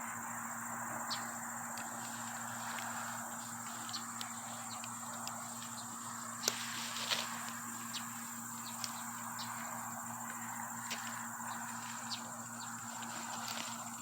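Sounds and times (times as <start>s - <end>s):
steady outdoor hiss: 0.0s - 14.0s
goats chewing leaves and twigs: 0.8s - 14.0s.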